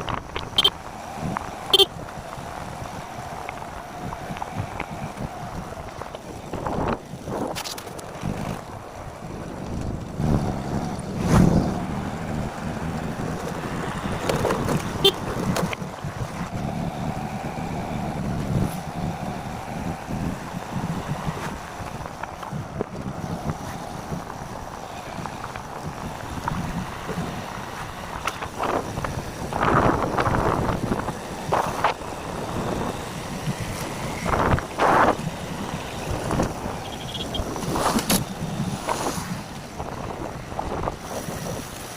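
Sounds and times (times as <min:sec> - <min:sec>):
vehicle road rumble: 0:00.0 - 0:41.9
wind on microphone: 0:00.0 - 0:41.9.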